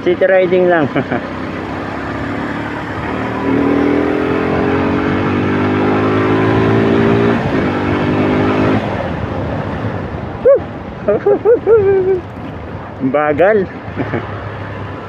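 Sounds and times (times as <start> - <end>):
wind and road noise: 0.0 - 15.0
motorcycle engine accelerating: 0.2 - 13.0.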